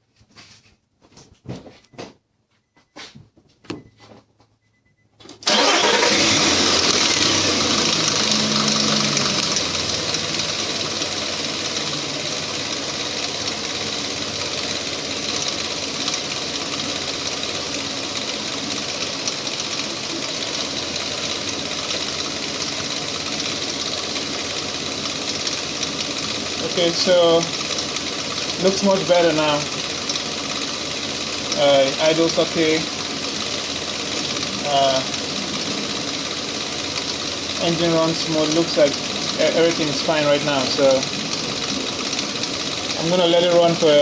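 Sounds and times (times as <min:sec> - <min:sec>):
engine starting and idling: 0:05.3 - 0:44.0.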